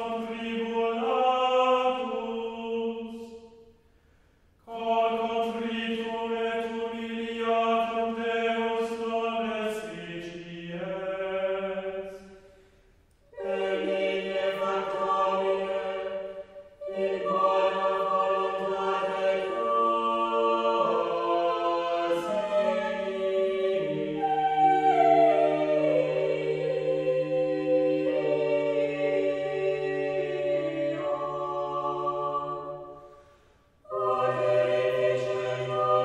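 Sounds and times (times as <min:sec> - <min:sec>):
choir singing long chords: 0:00.0 - 0:03.8, 0:04.6 - 0:12.6, 0:13.2 - 0:36.0.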